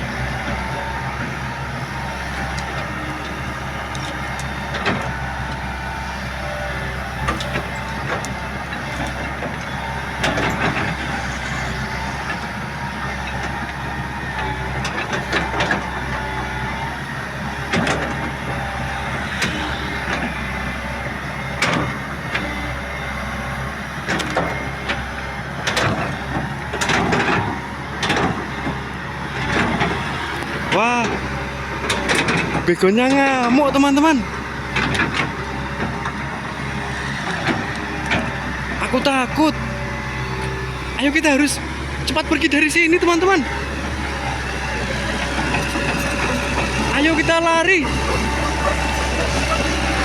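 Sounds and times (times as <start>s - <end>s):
excavator engine droning: 0.0s - 50.0s.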